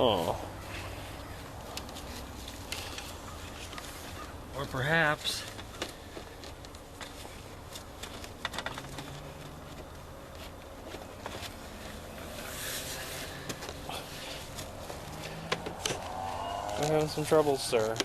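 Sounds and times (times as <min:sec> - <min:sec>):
rustling: 0:00.6 - 0:18.0.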